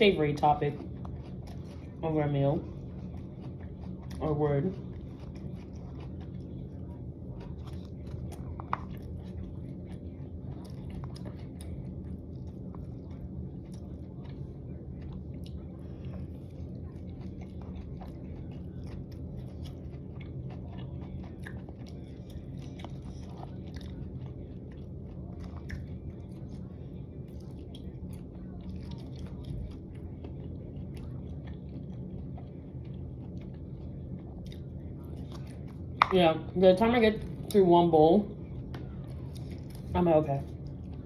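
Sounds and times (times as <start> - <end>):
chewing and crunching food: 0.0 - 41.0
steady low hum: 0.0 - 41.0.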